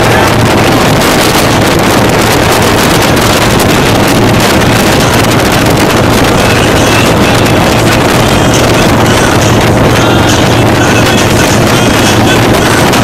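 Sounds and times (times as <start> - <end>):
motorcycle engines cruising: 0.0 - 13.0
wind buffeting microphone: 0.0 - 13.0.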